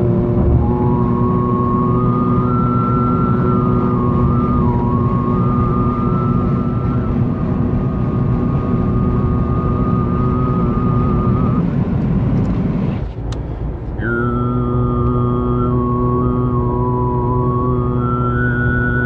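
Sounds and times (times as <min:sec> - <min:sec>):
car road noise: 0:00.0 - 0:19.0
man overtone singing: 0:00.6 - 0:11.5, 0:14.0 - 0:19.0.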